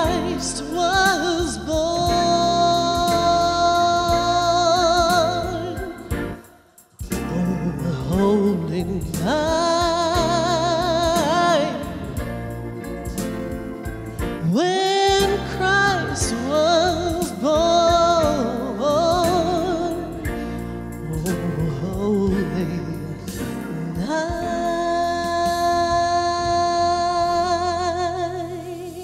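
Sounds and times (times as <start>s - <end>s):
woman singing with vibrato: 0.0s - 6.4s, 7.2s - 12.3s, 13.1s - 20.4s, 21.0s - 29.0s
instrumental accompaniment: 0.0s - 29.0s.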